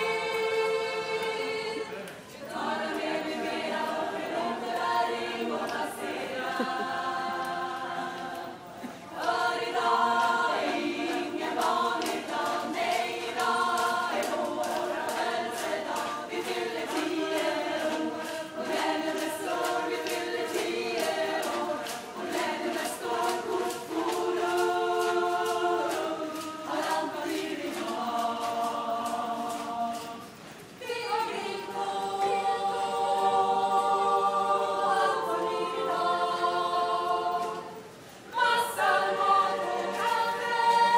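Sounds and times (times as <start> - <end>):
a cappella choir singing: 0.0 - 40.9.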